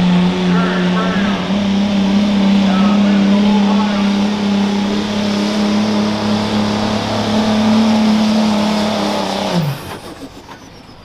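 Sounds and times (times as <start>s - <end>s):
diesel engine at full throttle: 0.0s - 11.0s.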